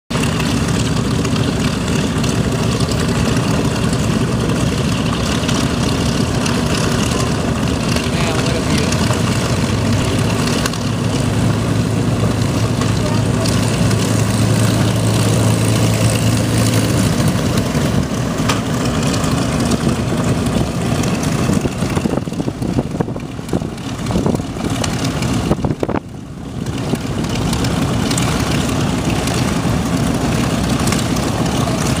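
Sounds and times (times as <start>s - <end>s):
propeller aircraft engine running: 0.1s - 32.0s.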